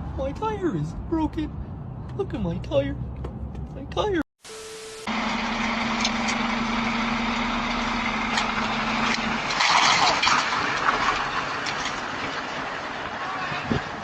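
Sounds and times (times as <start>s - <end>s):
vehicle running with noisy rush: 0.0s - 4.0s, 4.6s - 14.0s.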